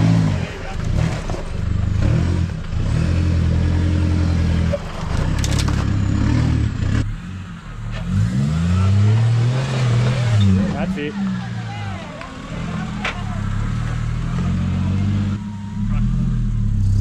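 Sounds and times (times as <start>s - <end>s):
off-road vehicle engine under load: 0.0s - 17.0s
vehicle engine revving: 0.0s - 17.0s.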